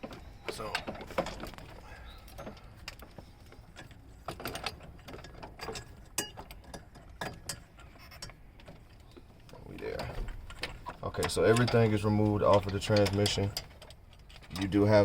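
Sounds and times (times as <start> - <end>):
metal parts and tools clinking: 0.0 - 9.2, 9.8 - 15.0.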